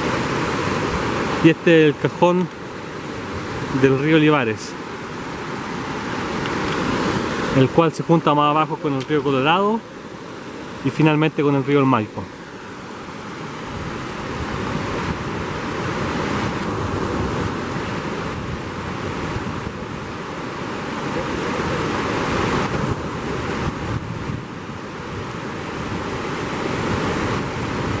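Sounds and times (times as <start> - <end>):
stream churning over stones: 0.0 - 28.0
waterfall rushing: 0.0 - 28.0.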